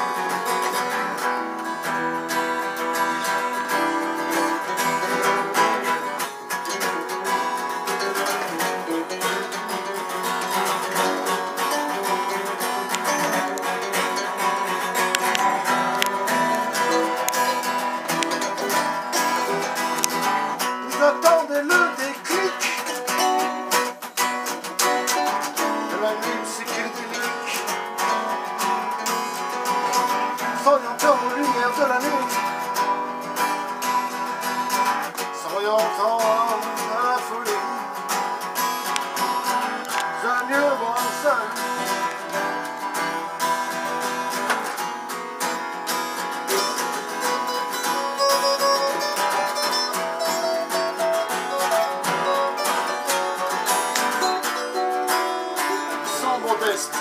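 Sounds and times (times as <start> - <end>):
strummed acoustic guitar: 0.0 - 57.0.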